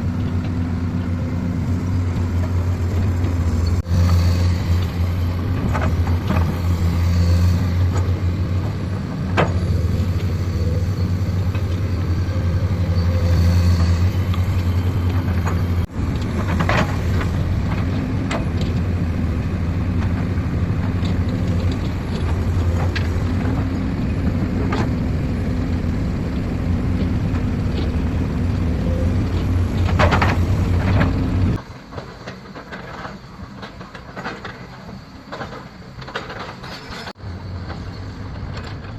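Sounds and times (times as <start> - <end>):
heavy diesel machinery drone: 0.0 - 38.9.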